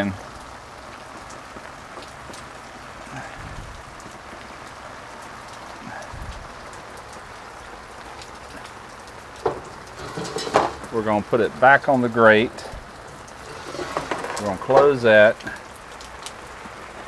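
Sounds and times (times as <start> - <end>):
drips: 0.0 - 17.0
heavy rain on a canopy: 0.0 - 17.0.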